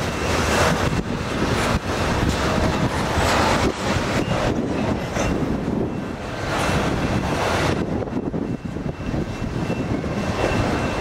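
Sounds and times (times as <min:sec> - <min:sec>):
train wheels rolling on track: 0:00.0 - 0:11.0.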